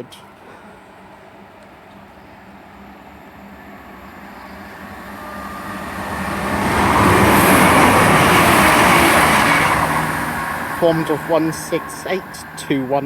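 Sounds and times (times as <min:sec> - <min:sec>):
diesel train passing at speed: 0:00.0 - 0:13.0.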